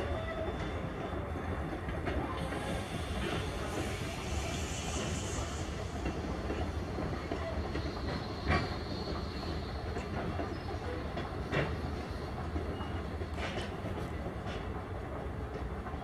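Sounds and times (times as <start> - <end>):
train coaches rumbling past: 0.0 - 16.0
train wheels clacking: 0.0 - 16.0.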